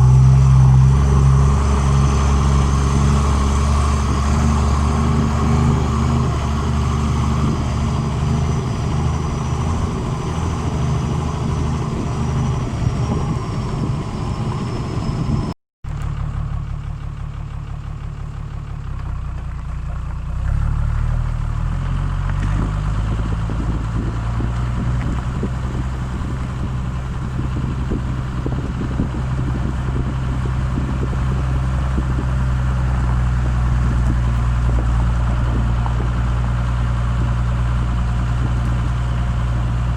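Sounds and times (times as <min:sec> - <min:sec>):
diesel engine exhaust running: 0:00.0 - 0:39.9.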